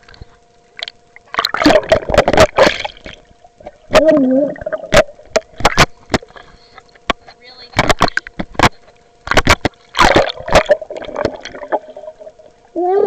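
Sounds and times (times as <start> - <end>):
water splashing and bubbling: 0.0 - 6.5, 7.8 - 13.0
faint steady whine: 0.0 - 13.0.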